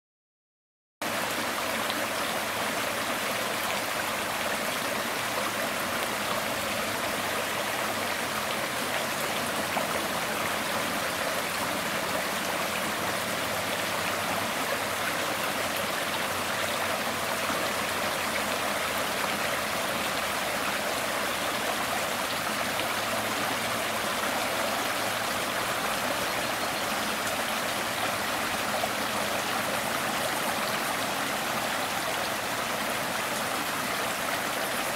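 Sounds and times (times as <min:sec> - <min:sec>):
stream flowing over stones: 0:01.0 - 0:34.9.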